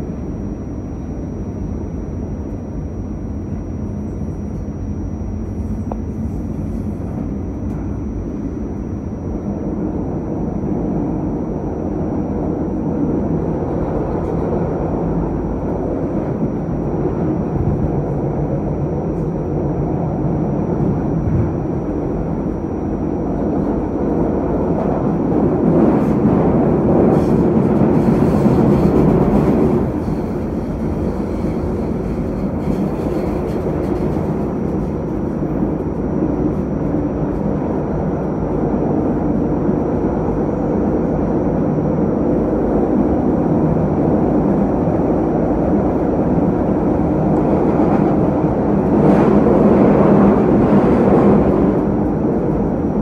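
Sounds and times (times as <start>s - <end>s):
light rail car rumble: 0.0s - 53.0s.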